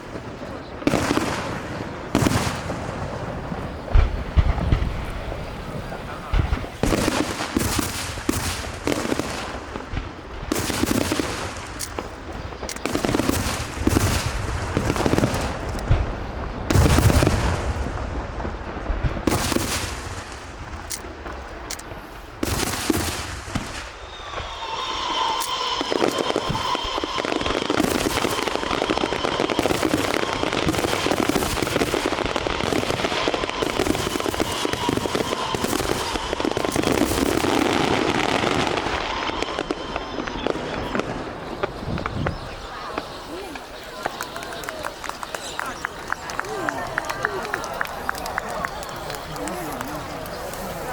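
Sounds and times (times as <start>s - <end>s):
fireworks bangs and booms: 0.0s - 50.9s
fireworks crackling: 0.0s - 50.9s.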